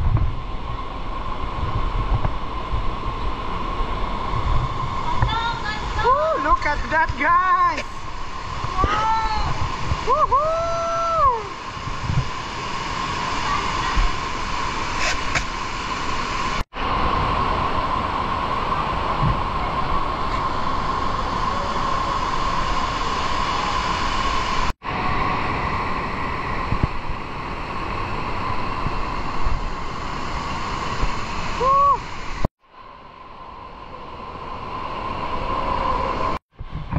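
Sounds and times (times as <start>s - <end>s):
water rushing in cave: 0.3s - 36.4s.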